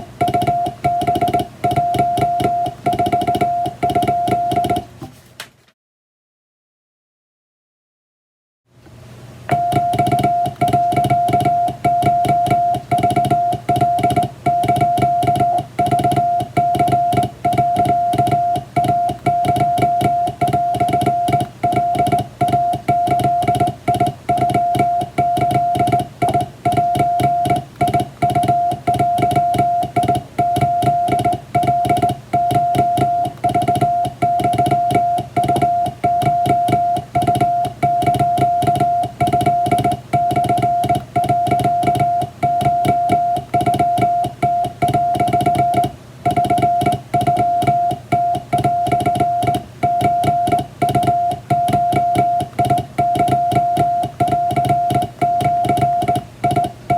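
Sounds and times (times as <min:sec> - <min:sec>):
morse code tone: 0:00.0 - 0:04.9, 0:09.5 - 0:56.9.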